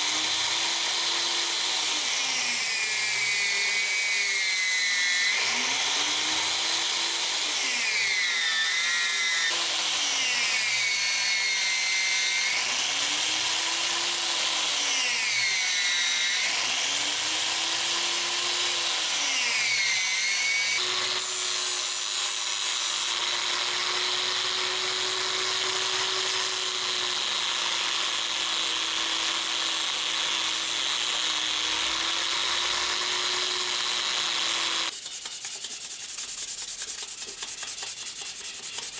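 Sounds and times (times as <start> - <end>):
angle grinder sanding: 0.0 - 38.9.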